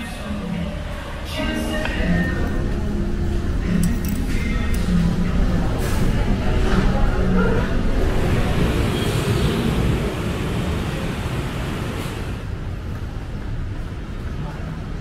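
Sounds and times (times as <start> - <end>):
road rumble: 0.2 - 15.0.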